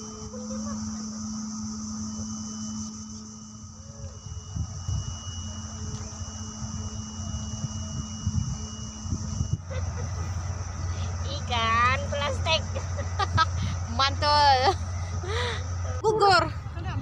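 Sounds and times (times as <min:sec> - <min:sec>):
insect chorus: 0:00.0 - 0:17.0
low hum: 0:00.0 - 0:17.0
thin whining tone: 0:00.0 - 0:17.0.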